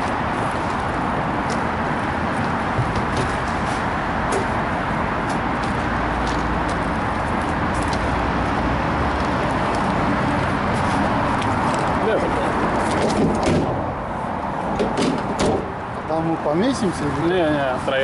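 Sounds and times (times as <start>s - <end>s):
van engine and road noise: 0.0s - 18.0s.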